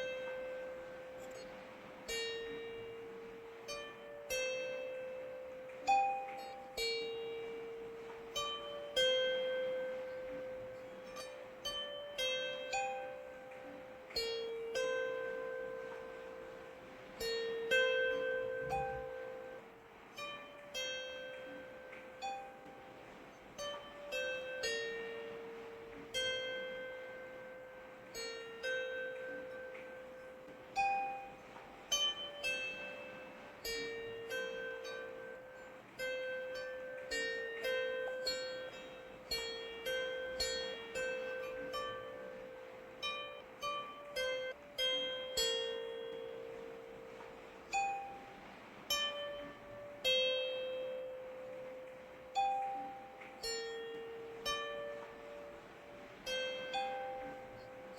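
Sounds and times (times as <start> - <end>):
faint rain hiss: 0.0 - 57.9
plucked string melody: 0.0 - 57.9.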